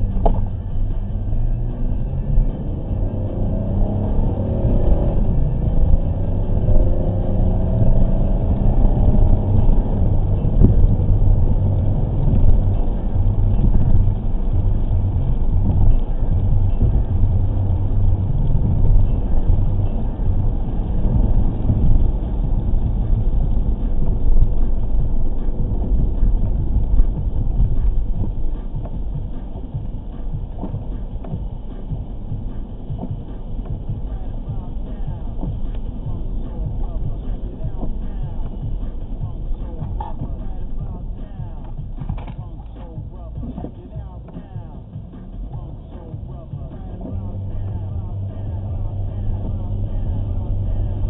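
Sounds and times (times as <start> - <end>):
car engine drone: 0.0 - 51.0
road noise on wet pavement: 0.0 - 51.0.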